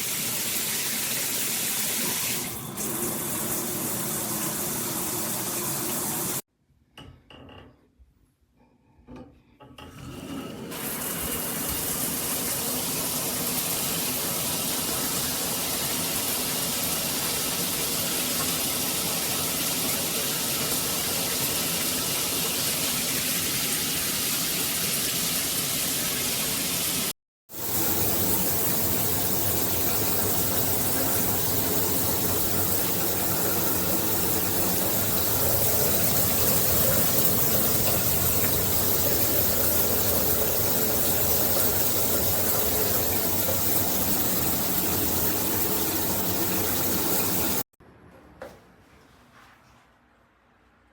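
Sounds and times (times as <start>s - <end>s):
shower head spraying water: 0.0s - 6.4s, 10.8s - 47.7s.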